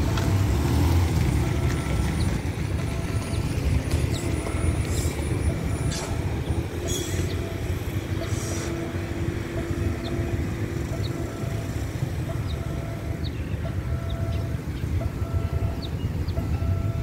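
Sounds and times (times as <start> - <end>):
motor vehicles rumbling: 0.0 - 17.0.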